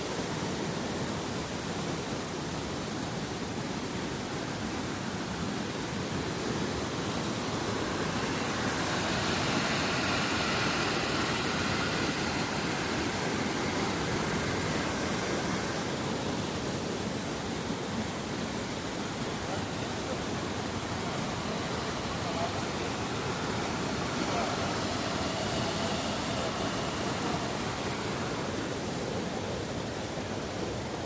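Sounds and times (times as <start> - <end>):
waterfall rushing and splashing: 0.0 - 31.0.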